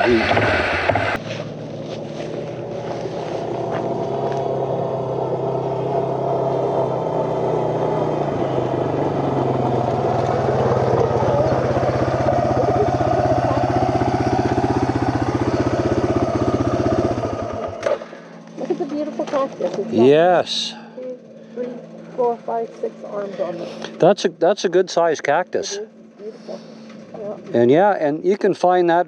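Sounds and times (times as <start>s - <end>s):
off-road vehicle engine droning: 0.0s - 29.0s.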